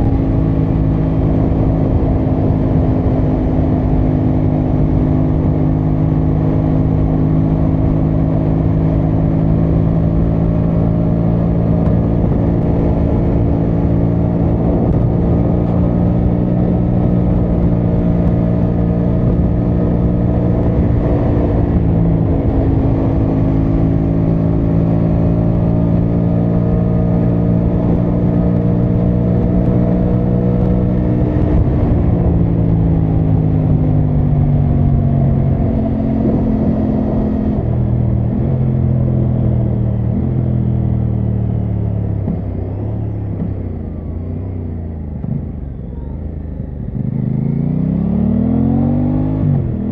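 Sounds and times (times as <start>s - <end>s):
wind noise: 0.0s - 46.1s
motorcycle engine running: 0.0s - 49.9s.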